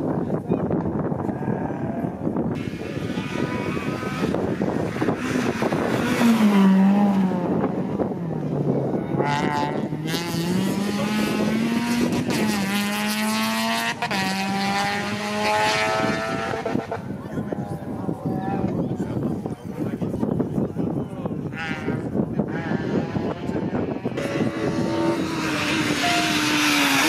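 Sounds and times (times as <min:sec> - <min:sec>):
rally car engine revving: 0:01.2 - 0:18.7, 0:21.4 - 0:27.0.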